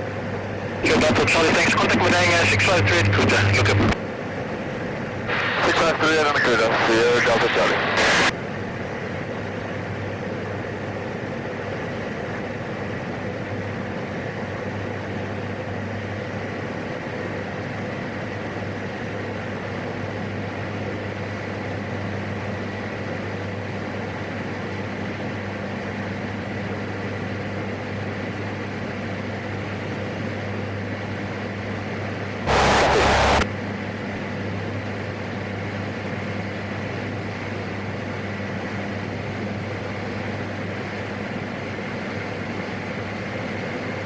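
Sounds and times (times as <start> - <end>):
turboprop engine drone in cockpit: 0.0 - 44.0.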